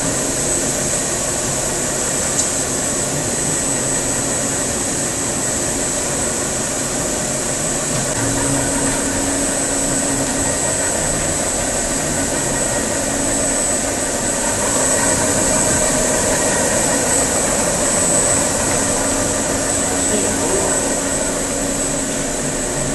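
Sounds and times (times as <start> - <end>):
machine high whine: 0.0 - 22.9
machine low hum: 0.0 - 22.9.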